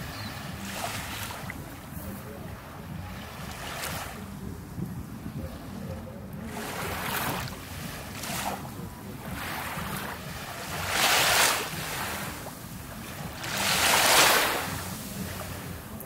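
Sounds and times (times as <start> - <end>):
small waves breaking on shore: 0.0 - 16.0.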